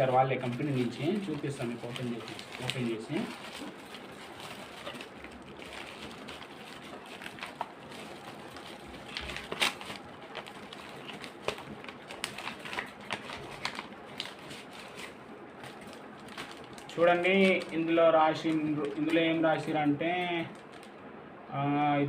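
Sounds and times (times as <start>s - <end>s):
paper packaging rustling: 0.0s - 21.0s.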